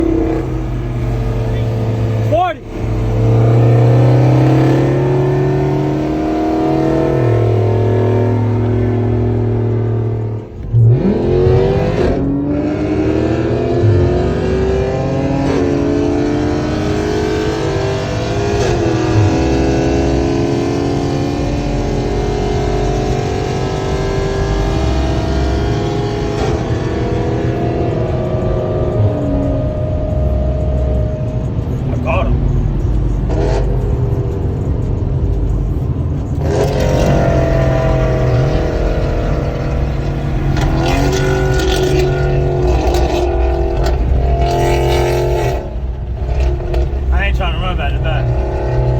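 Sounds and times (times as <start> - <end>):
car engine accelerating hard: 0.0 - 48.9.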